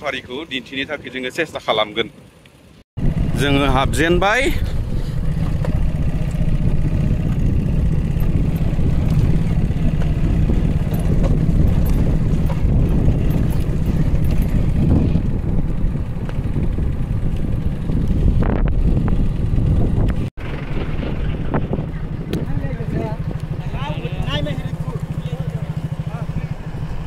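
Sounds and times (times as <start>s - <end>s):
vehicle driving on dirt road: 2.1s - 27.0s.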